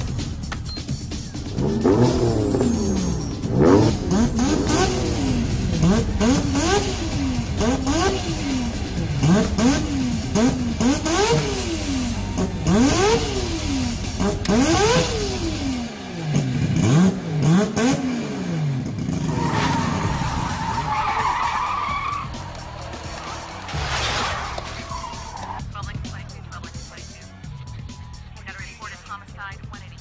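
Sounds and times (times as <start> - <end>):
rotary engine revving: 1.4 - 25.6.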